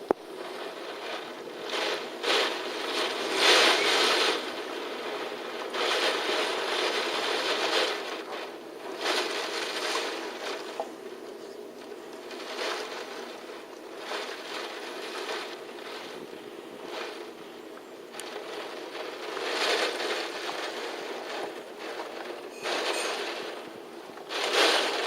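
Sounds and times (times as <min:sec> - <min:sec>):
wind and rain rushing: 0:00.0 - 0:25.0.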